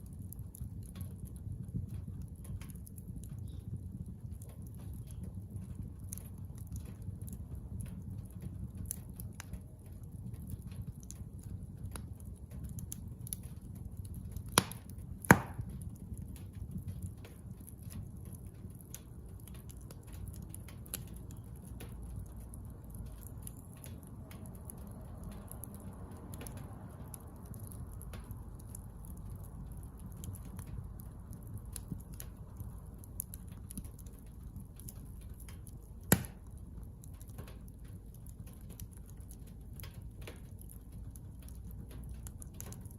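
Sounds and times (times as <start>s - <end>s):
bonfire crackling: 0.0s - 42.9s
fire popping: 0.0s - 42.9s
low steady rumble: 0.0s - 42.9s.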